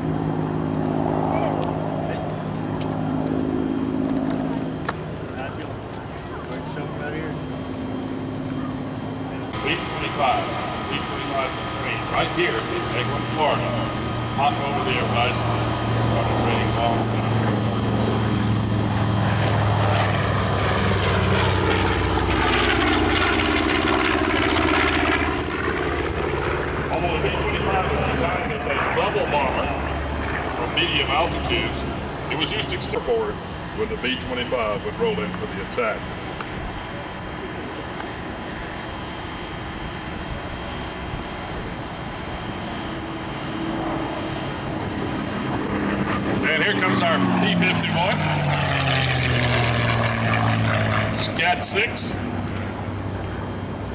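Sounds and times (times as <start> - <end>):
propeller aircraft engines droning: 0.0 - 53.9.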